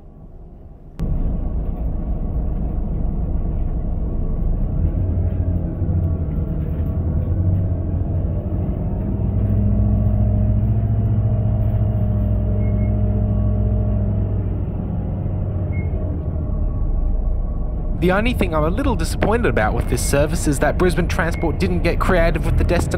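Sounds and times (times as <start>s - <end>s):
bus diesel engine rumble: 0.0s - 22.9s.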